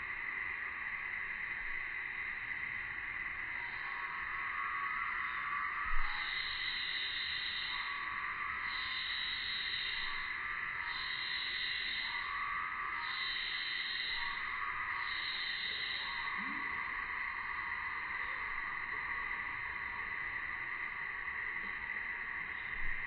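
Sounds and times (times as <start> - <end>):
cicada chorus buzzing: 0.0 - 23.0.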